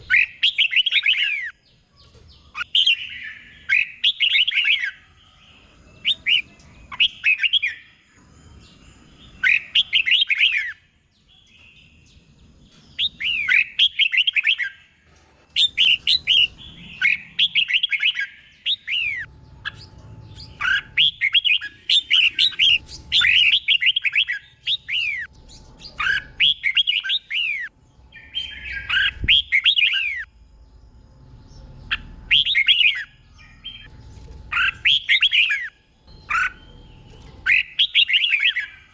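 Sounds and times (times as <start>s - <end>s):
bird singing whistled notes: 0.0s - 14.8s, 15.6s - 33.9s, 34.5s - 38.9s.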